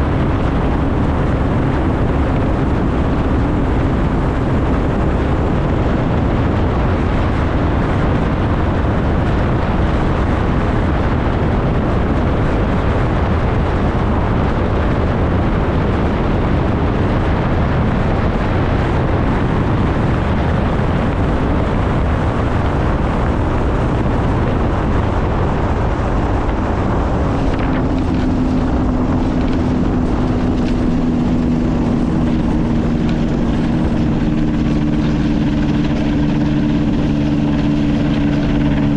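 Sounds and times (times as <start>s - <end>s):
aircraft engine and propeller: 0.0s - 38.9s
wind rushing: 0.0s - 38.9s.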